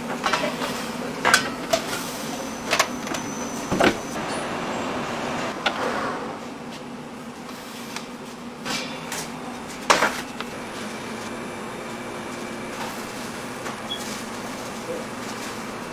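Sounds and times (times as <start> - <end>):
machine hum: 0.0 - 7.5, 9.2 - 15.9.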